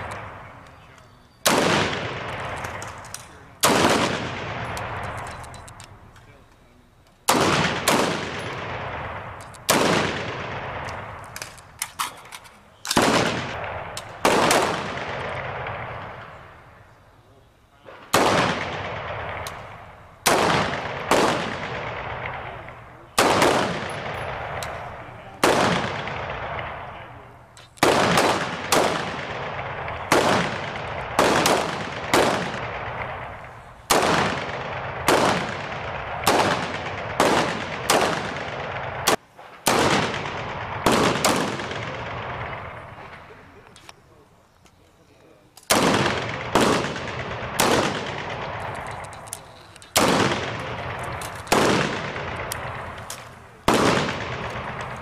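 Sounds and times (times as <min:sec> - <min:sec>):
rifle shots with echo: 0:00.0 - 0:06.1, 0:07.2 - 0:12.2, 0:12.8 - 0:16.9, 0:17.9 - 0:43.8, 0:45.7 - 0:55.0.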